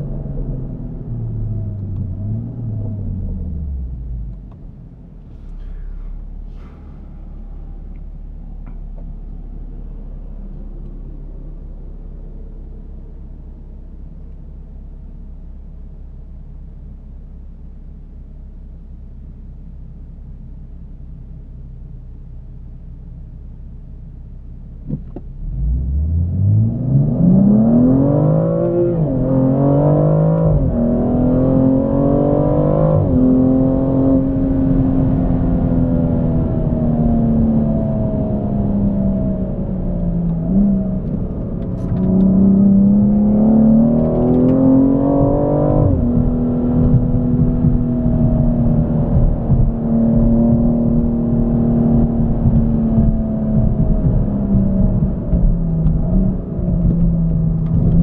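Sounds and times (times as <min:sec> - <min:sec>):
car engine accelerating: 0:00.0 - 0:15.7, 0:24.8 - 0:58.0.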